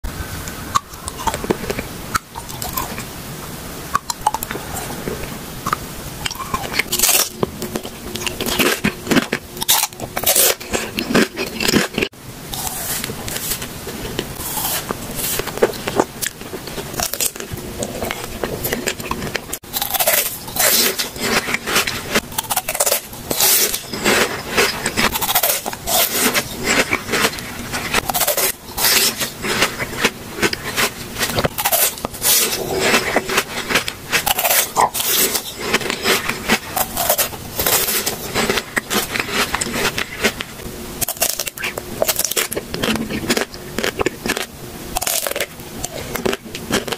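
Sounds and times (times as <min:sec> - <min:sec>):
crunching and chewing: 0:00.5 - 0:03.1, 0:03.9 - 0:46.9.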